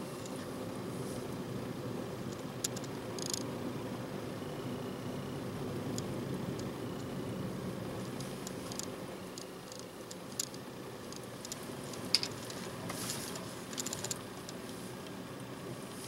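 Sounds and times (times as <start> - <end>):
car engine hum from inside cabin: 0.0 - 16.0.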